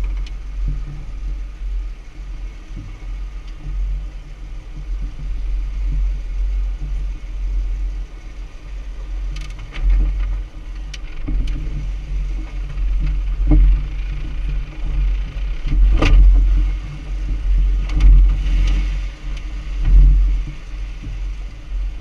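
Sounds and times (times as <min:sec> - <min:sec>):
engine running low rumble: 0:00.0 - 0:22.0.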